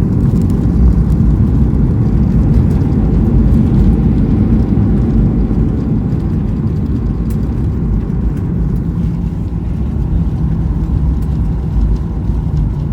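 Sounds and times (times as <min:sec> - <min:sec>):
airliner cabin rumble: 0:00.0 - 0:12.9.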